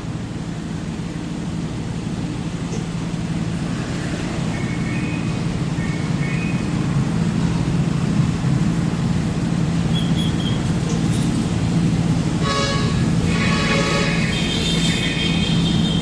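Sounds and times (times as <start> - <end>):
road noise: 0.0 - 16.0
truck engine droning: 0.0 - 16.0.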